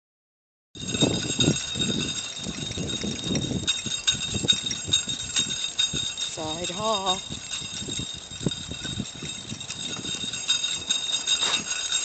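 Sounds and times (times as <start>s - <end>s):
cart wheels rumbling and knocking: 0.8s - 12.0s
metal clicking and jingling: 0.8s - 12.0s.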